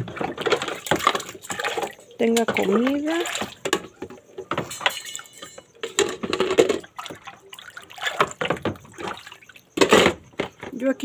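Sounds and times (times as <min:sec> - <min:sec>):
water splashing in plastic basin: 0:00.0 - 0:11.0.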